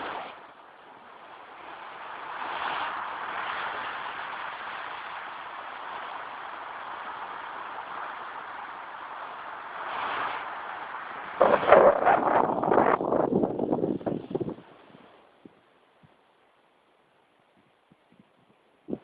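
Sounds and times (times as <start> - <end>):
sea waves washing in: 0.0 - 16.7.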